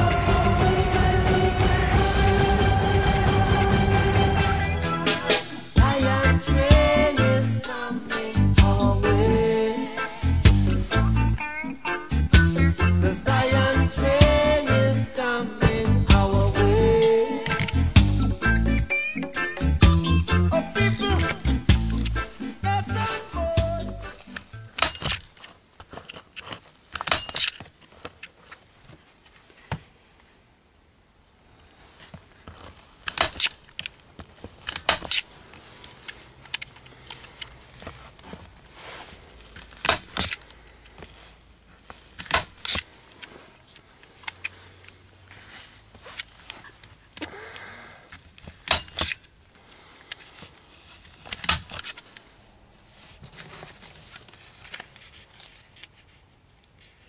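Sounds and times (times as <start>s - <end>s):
rustling: 6.2s - 30.4s, 31.2s - 57.0s.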